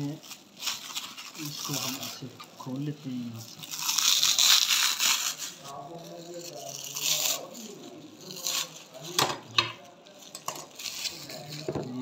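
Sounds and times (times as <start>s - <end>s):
bubble wrap crackles: 0.0s - 12.0s
bubble wrap crinkling: 0.0s - 12.0s.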